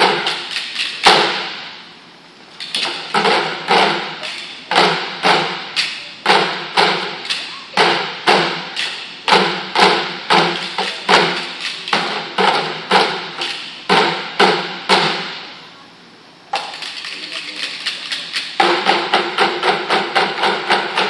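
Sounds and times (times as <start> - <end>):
drumming on pipes and buckets: 0.0 - 1.8, 2.6 - 15.5, 16.5 - 21.0.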